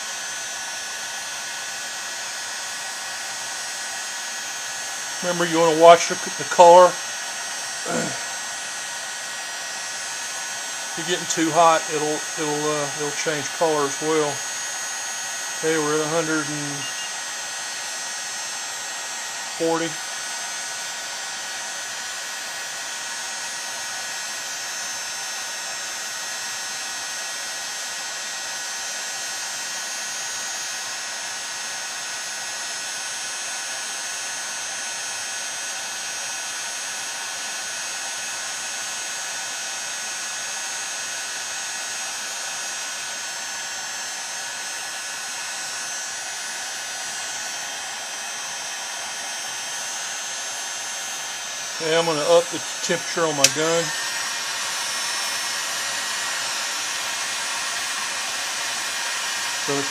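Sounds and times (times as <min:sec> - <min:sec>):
heat gun blowing hiss: 0:00.0 - 0:59.9.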